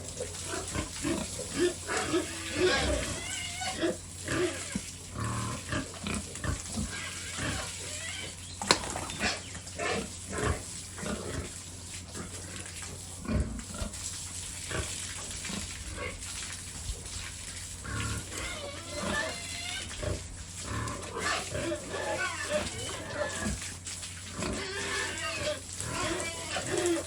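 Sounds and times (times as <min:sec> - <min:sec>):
pigs grunting: 0:00.0 - 0:27.0.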